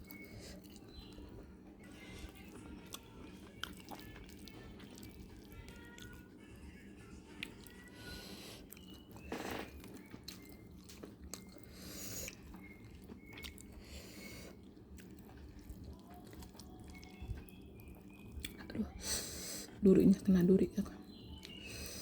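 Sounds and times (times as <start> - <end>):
chewing and crunching fried fish: 0.0 - 19.3, 21.0 - 22.0.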